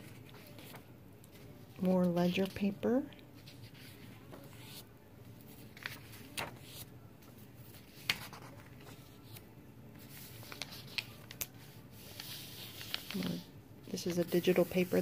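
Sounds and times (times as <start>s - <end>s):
paper pages turning: 0.0s - 4.8s, 5.4s - 15.0s.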